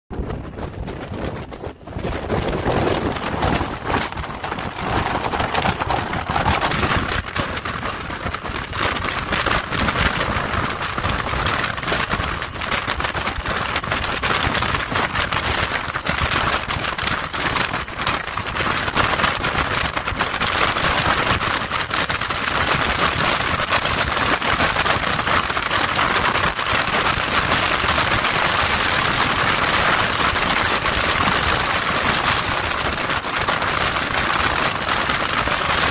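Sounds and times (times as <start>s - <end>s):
wind buffeting microphone: 0.1s - 35.9s.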